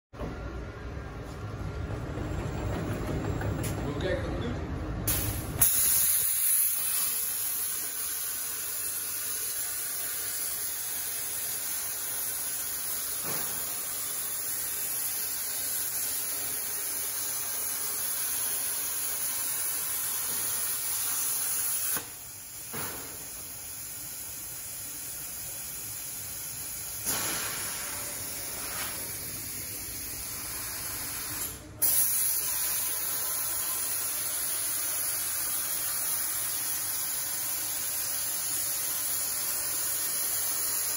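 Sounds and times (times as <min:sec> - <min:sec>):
plasma torch hissing: 0:05.1 - 0:40.9.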